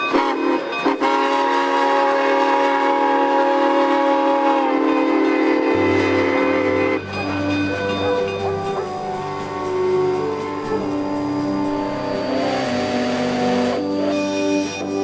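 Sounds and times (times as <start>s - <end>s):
steam locomotive whistle: 0.0s - 15.0s.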